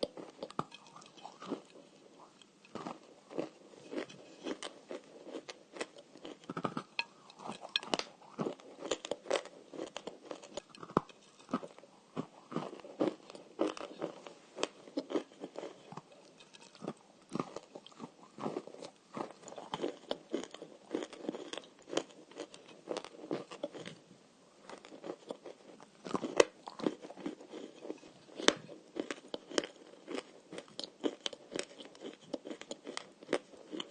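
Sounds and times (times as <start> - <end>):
crunchy clay being chewed: 0.0 - 33.9.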